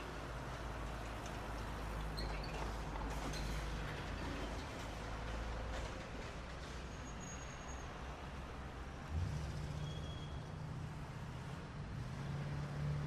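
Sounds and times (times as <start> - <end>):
background traffic noise: 0.0 - 13.0.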